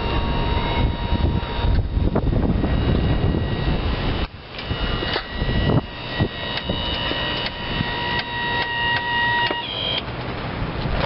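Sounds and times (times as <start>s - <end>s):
mower engine running: 0.0s - 10.2s
high whine: 0.0s - 11.0s.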